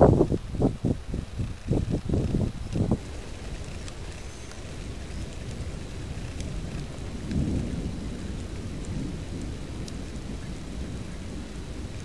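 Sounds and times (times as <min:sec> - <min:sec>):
wind noise: 0:00.0 - 0:12.0
distant thunder rumbling: 0:01.7 - 0:12.0.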